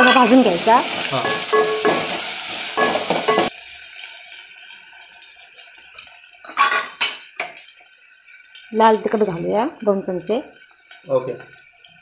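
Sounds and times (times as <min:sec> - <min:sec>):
potato and onion sizzling in oil: 0:00.0 - 0:12.0.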